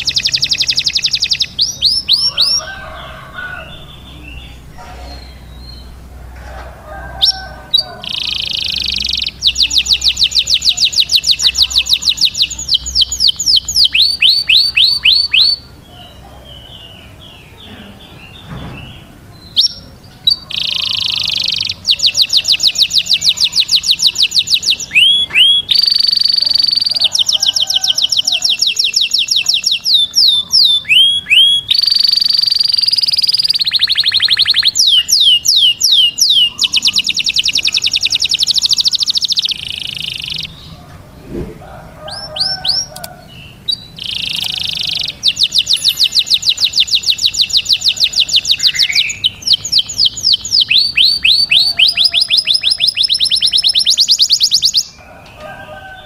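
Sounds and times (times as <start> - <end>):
canary singing trills and whistles: 0.0 - 6.0, 7.2 - 40.9, 42.0 - 56.0
bird chirps: 0.0 - 6.4, 7.1 - 41.0, 42.0 - 56.0.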